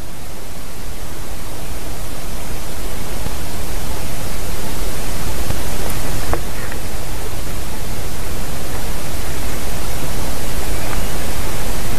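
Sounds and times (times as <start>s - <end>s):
wind rushing over microphone: 0.0s - 11.9s.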